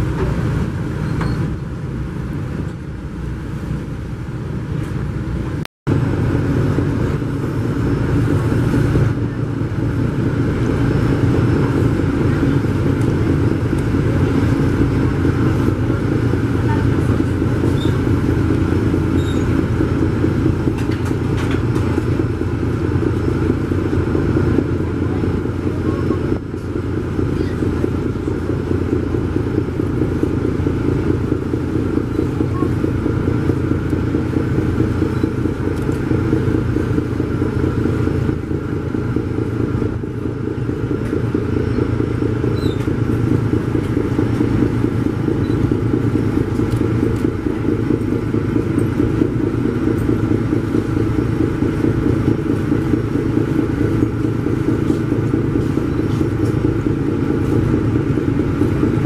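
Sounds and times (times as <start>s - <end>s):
marine diesel engines throbbing: 0.0s - 59.0s.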